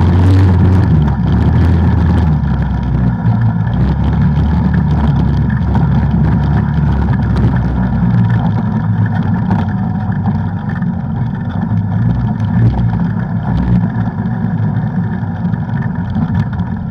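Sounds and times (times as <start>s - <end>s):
knocks and rattles: 0.0s - 13.8s
off-road vehicle engine: 0.0s - 16.9s.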